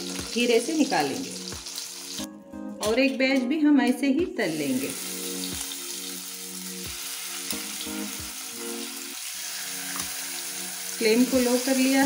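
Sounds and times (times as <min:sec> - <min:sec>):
oil sizzling in frying pan: 0:00.0 - 0:02.3, 0:04.5 - 0:12.0
soft background music: 0:00.0 - 0:12.0.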